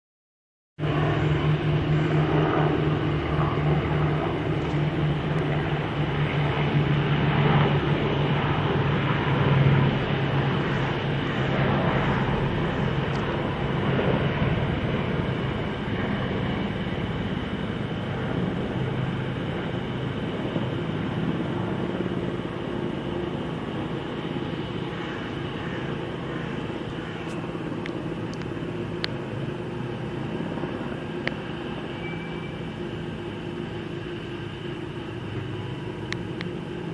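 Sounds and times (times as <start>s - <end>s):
helicopter rotors droning: 0.8s - 36.9s.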